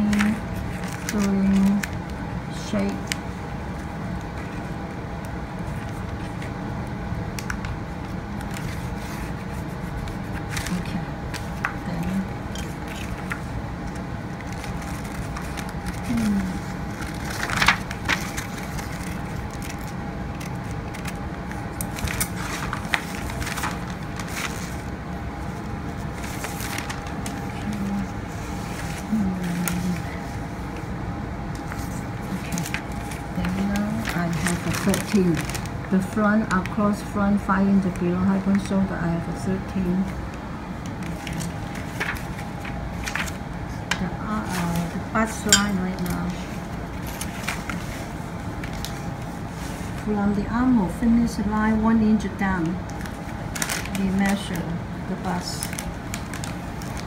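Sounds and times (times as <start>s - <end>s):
paper rustling and crackling: 0.0s - 30.9s, 31.5s - 37.0s, 40.0s - 50.1s, 52.6s - 57.0s
room hum: 0.0s - 57.0s.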